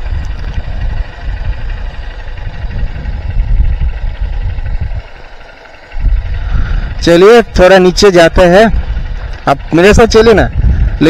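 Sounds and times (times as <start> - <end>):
motorbike engine running: 0.0 - 11.0
wind rumble on microphone: 0.0 - 11.0.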